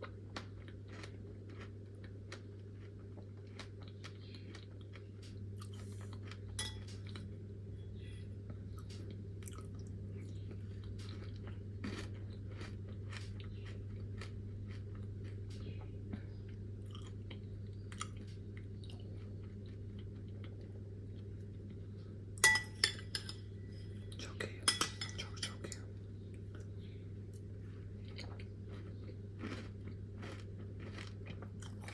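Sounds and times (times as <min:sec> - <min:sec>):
chewing crunchy food: 0:00.0 - 0:07.4, 0:08.4 - 0:22.2, 0:23.9 - 0:31.9.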